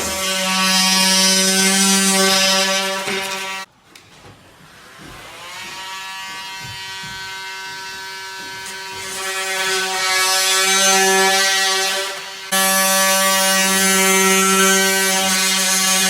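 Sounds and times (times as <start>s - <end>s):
electric power tool buzzing: 0.0s - 3.7s, 4.7s - 16.0s.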